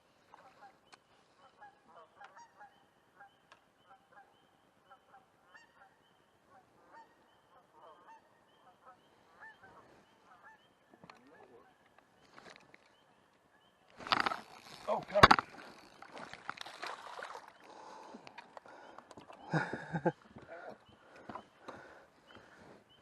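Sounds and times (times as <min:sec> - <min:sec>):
faint bird calls: 0:00.3 - 0:16.4, 0:17.0 - 0:23.0.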